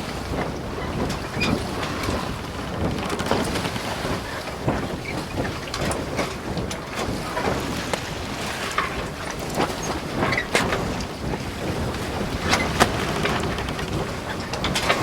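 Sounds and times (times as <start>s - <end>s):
water rushing along hull: 0.0s - 15.0s
wind noise on microphone: 0.0s - 15.0s.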